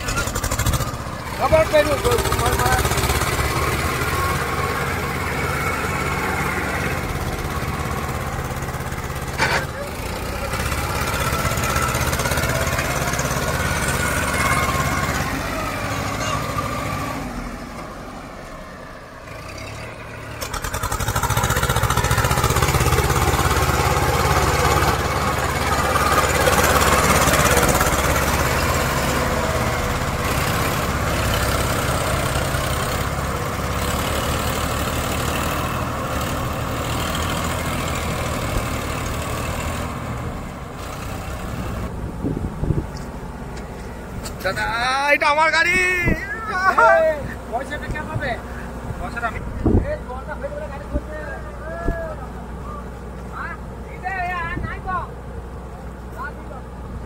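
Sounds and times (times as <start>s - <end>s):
tractor diesel engines under load: 0.0s - 57.0s.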